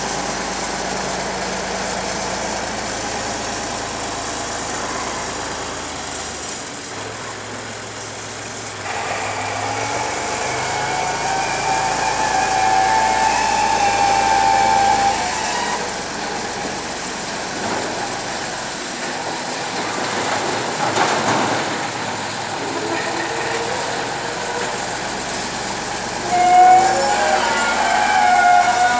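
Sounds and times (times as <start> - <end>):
diesel loader engine revving: 0.0 - 28.9.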